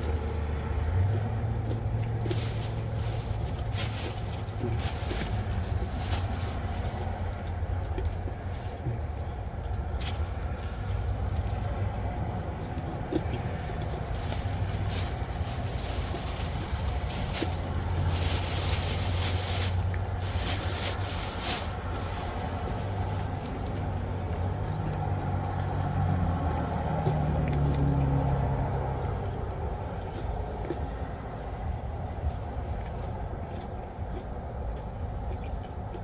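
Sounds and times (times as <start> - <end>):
low engine hum: 0.0 - 36.0.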